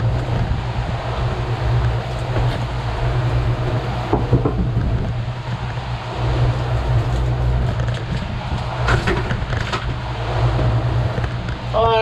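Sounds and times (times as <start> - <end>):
outboard motors droning: 0.0 - 12.0
wind and water rushing: 0.0 - 12.0.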